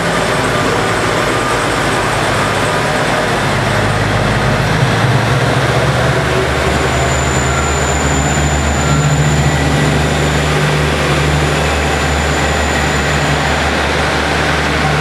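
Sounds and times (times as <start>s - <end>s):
train diesel engine drone: 0.0s - 15.0s.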